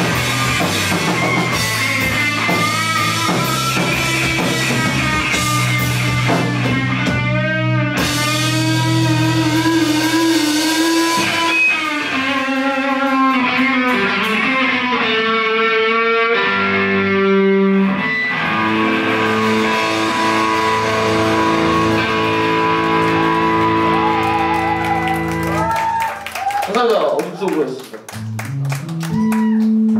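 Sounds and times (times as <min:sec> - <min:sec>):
electric guitar bending notes: 0:00.0 - 0:26.2, 0:28.0 - 0:29.9
live rock music: 0:00.0 - 0:29.9.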